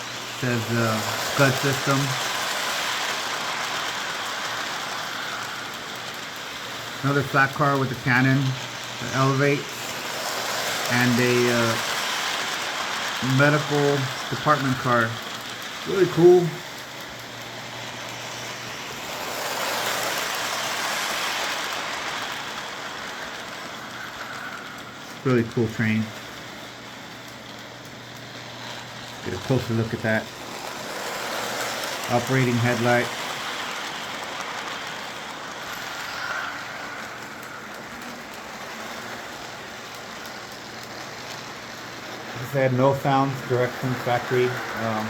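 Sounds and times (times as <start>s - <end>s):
toy train rumbling on track: 0.0s - 45.0s
wheels rolling on rails: 0.0s - 45.0s.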